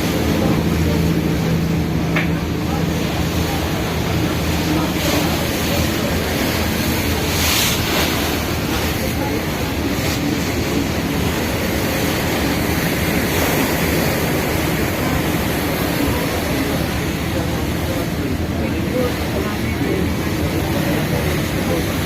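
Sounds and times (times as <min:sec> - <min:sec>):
ferry engine drone: 0:00.0 - 0:22.0
water rushing along hull: 0:00.0 - 0:22.0.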